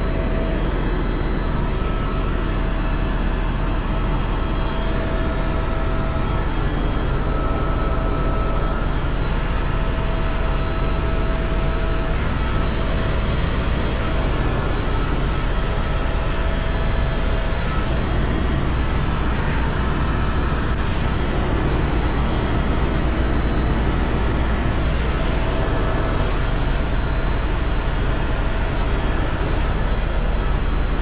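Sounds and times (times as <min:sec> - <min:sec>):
faint steady whine: 0:00.0 - 0:31.0
helicopter rotor and engine: 0:00.0 - 0:31.0.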